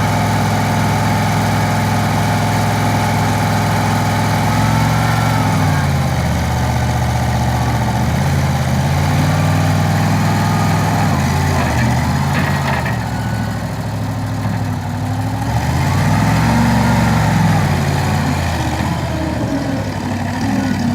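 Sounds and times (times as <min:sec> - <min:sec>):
loader engine running: 0:00.0 - 0:20.9.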